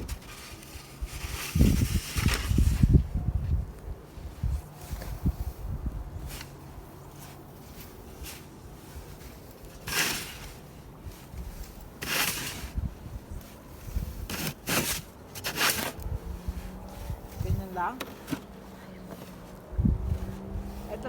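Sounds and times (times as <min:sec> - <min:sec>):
snow shovel scraping snow: 0:00.0 - 0:02.9, 0:06.3 - 0:21.0.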